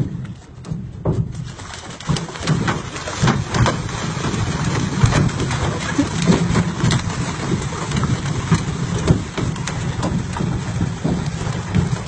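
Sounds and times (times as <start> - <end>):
outboard motor running: 0.1 - 12.0
fish splashing in water: 1.3 - 12.0.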